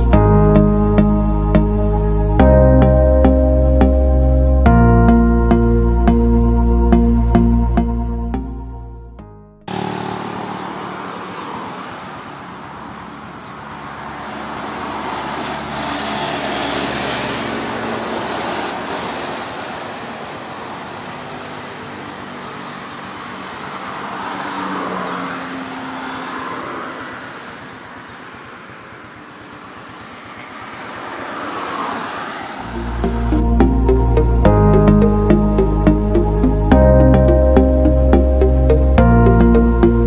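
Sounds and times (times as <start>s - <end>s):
cars passing: 0.0s - 40.0s.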